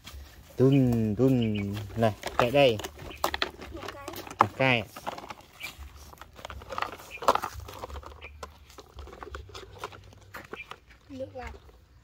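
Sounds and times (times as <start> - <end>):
toy digger scooping soil: 1.6 - 12.0.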